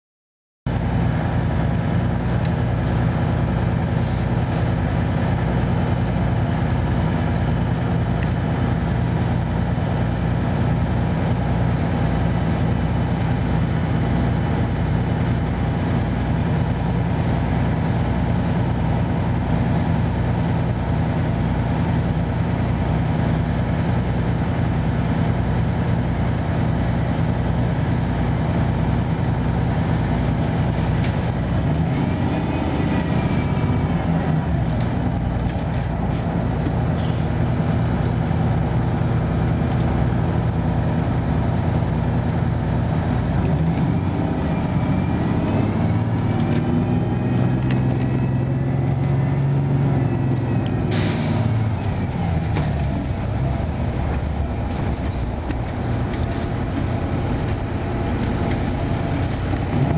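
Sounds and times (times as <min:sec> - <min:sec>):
diesel bus engine idling: 0:00.7 - 0:59.9.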